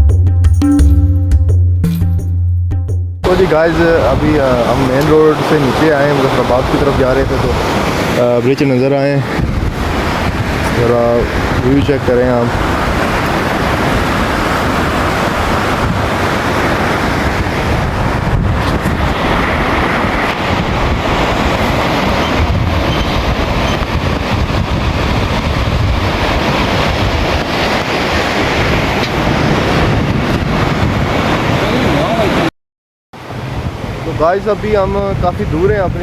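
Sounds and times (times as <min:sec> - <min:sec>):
fast river rushing: 0:03.2 - 0:32.5, 0:33.2 - 0:36.0
wind buffeting microphone: 0:03.2 - 0:32.5, 0:33.2 - 0:36.0.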